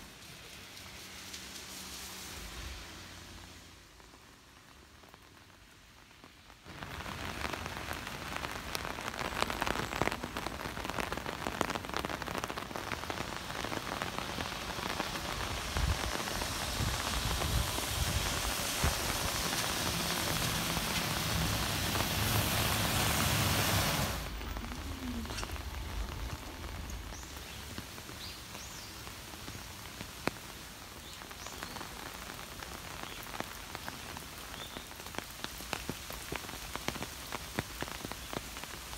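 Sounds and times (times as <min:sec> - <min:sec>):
heavy rain hissing: 0:00.0 - 0:38.9
raindrops ticking: 0:04.0 - 0:23.0, 0:24.2 - 0:38.9.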